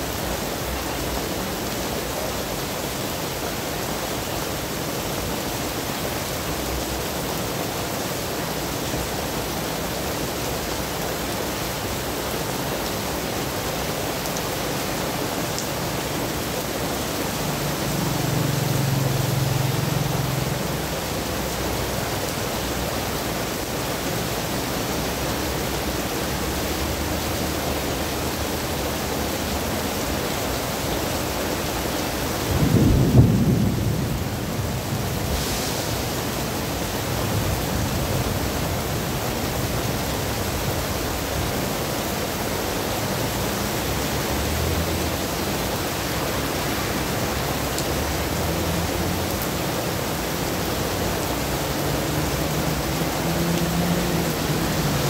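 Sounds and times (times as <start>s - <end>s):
heavy rain on wet street: 0.0s - 55.0s.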